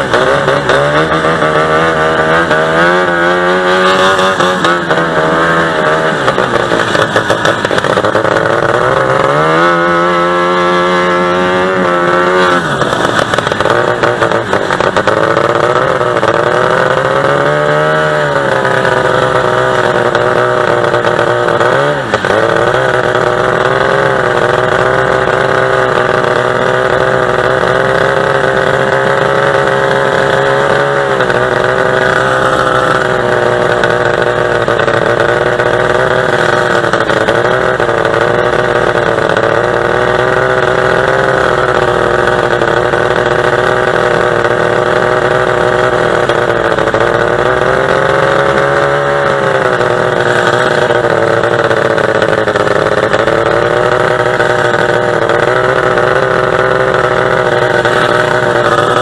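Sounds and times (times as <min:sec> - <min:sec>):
two-stroke boat engine running: 0:00.0 - 0:59.0.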